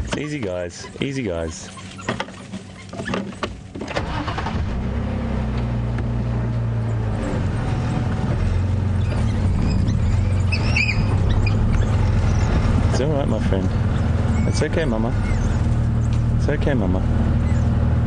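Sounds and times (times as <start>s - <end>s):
vehicle engine running: 3.5s - 18.0s.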